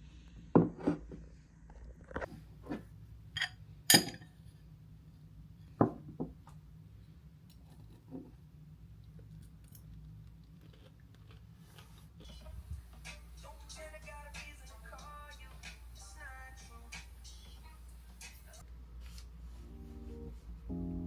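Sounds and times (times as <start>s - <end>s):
low room tone hum: 0.0s - 21.0s.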